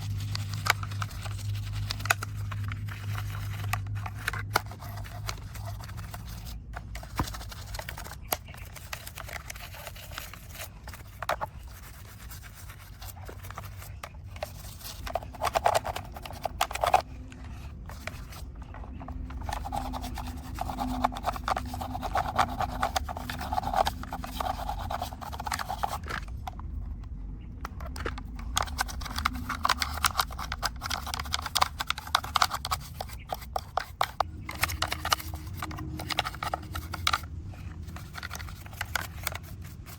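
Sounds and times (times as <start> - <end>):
scraping on a toy car: 0.0 - 26.6, 27.6 - 39.9.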